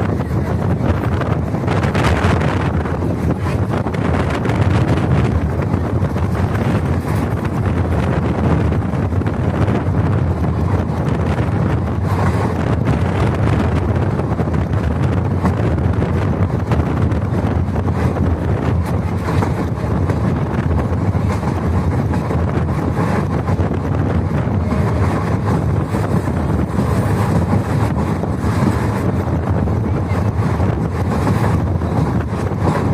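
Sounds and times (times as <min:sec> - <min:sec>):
train rumbling: 0:00.0 - 0:32.9
wind buffeting microphone: 0:00.0 - 0:32.9.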